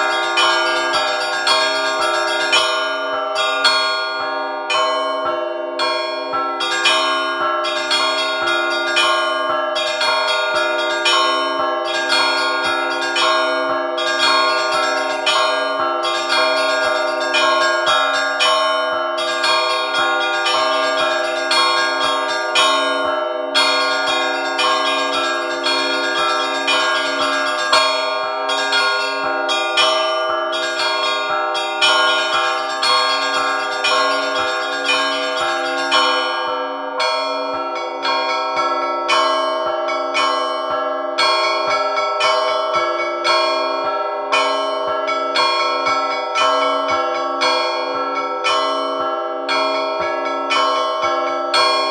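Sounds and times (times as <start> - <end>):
low church bell striking: 0.0 - 51.9
small church bells ringing fast runs: 0.0 - 51.9.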